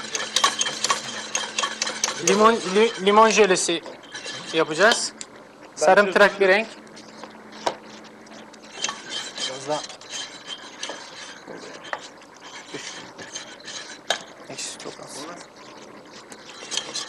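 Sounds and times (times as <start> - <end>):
wooden spoon scraping crumbs in pan: 0.0 - 5.1, 7.5 - 17.0.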